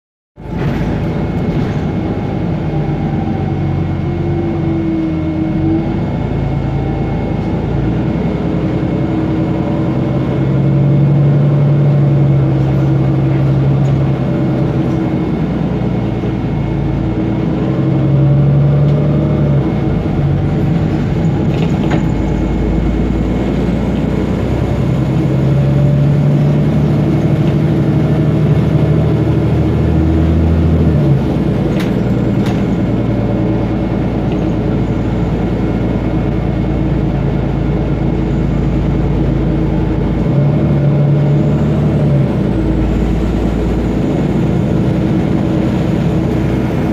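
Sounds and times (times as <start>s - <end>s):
bus diesel engine droning: 0.4s - 46.9s
gearbox whine: 0.4s - 46.9s.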